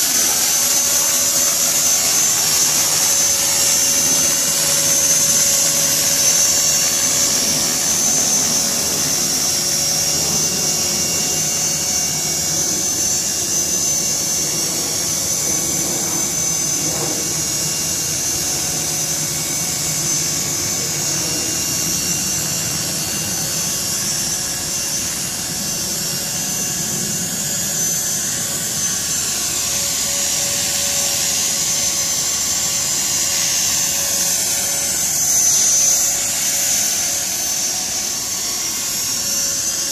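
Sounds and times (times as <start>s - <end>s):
rc helicopter motor whine: 0.0s - 39.9s
rotor blades buzzing: 0.0s - 39.9s.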